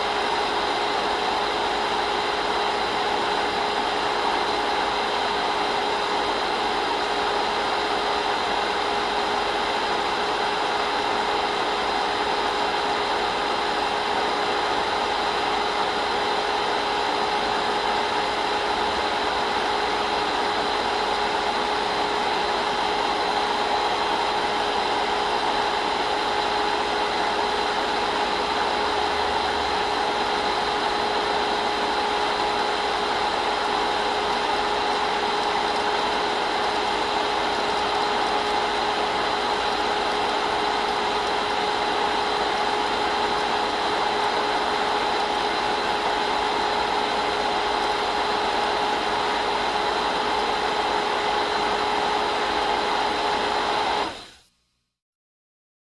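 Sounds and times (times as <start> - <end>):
projector whirring: 0.0 - 54.5.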